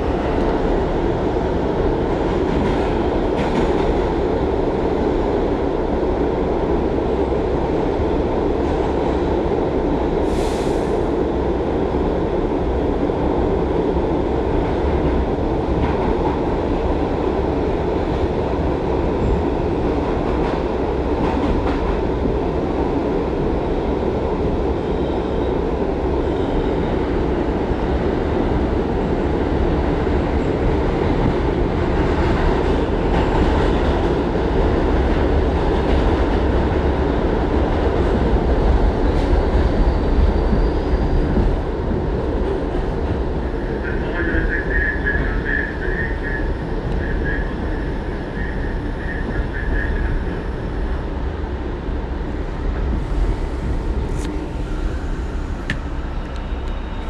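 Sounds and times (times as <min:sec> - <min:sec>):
subway wheels rumbling on track: 0:00.0 - 0:57.0.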